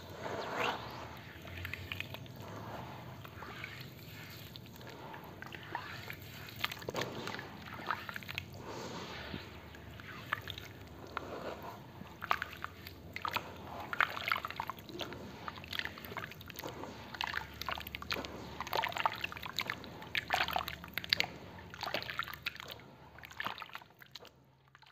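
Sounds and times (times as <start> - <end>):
hands squelching wet slurry: 0.0 - 24.9.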